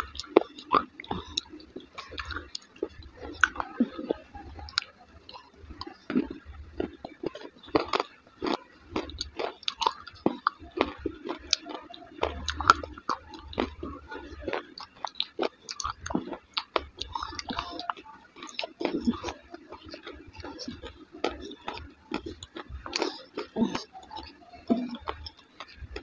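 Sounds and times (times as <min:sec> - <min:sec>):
person chewing with wet smacks: 0:00.0 - 0:26.0.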